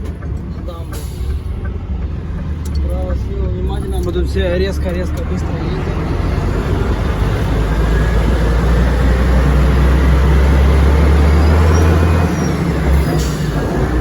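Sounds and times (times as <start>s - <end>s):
truck diesel engine drone: 0.0s - 14.0s.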